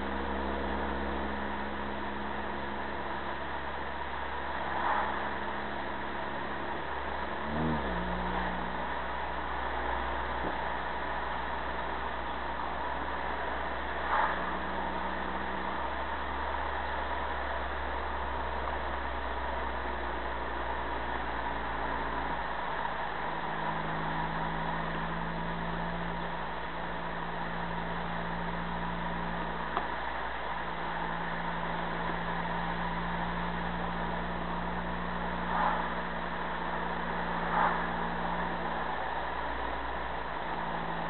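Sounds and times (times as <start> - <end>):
car engine hum: 0.0 - 41.0
road noise: 0.0 - 41.0.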